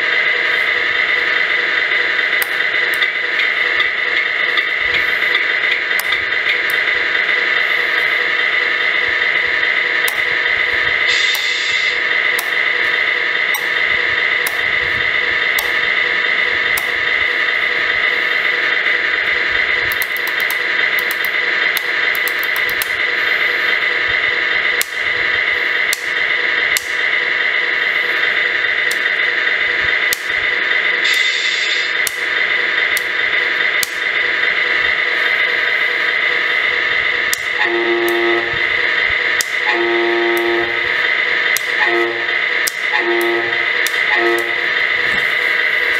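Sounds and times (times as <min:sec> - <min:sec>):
tinny simulated engine idling: 0:00.0 - 0:45.9.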